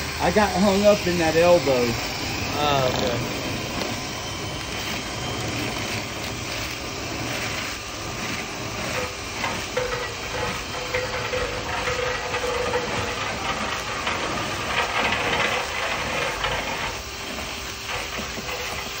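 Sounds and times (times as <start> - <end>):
faint motor whine: 0.0 - 19.0
rotary brush rattling inside duct: 0.0 - 19.0.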